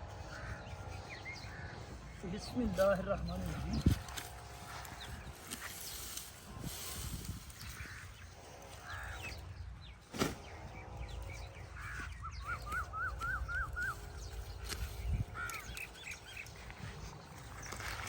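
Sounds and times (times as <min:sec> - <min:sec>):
birds calling: 0:00.0 - 0:18.0
steady low rumble: 0:00.0 - 0:18.0.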